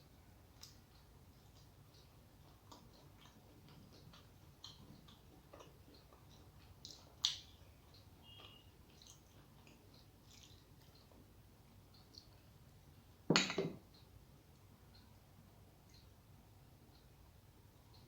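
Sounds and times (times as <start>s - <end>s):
soft chewing: 0.0s - 13.0s, 13.9s - 18.0s.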